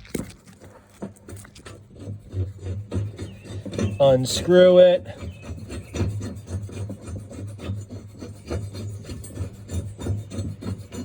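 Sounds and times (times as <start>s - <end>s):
metal-on-metal rasping of nut: 0.4s - 11.0s.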